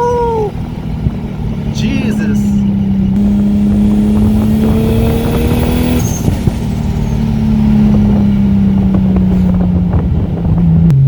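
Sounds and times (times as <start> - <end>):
car engine pulling uphill: 0.0 - 11.0.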